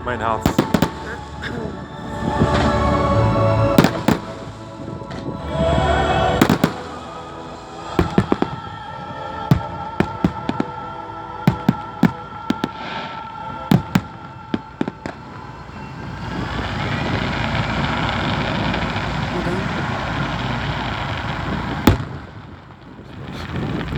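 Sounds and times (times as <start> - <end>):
music playing: 0.0 - 21.9
fireworks bangs and crackles: 0.0 - 23.9
steady rushing noise: 0.0 - 23.9.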